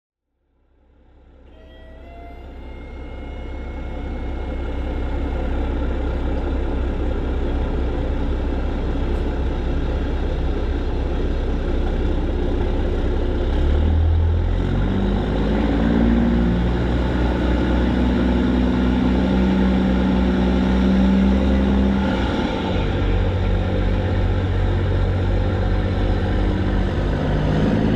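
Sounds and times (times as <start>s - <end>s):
truck diesel engine drone: 0.4s - 27.9s.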